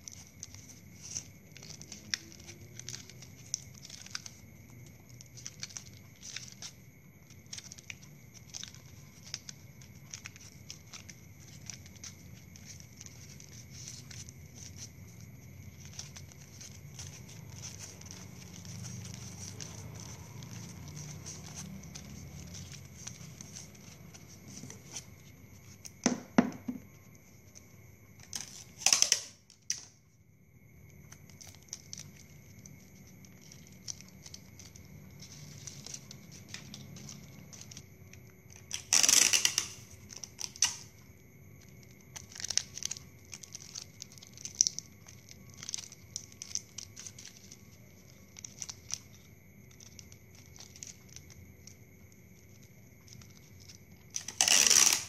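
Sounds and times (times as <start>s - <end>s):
plastic fronds and tape crinkling: 0.0s - 55.0s.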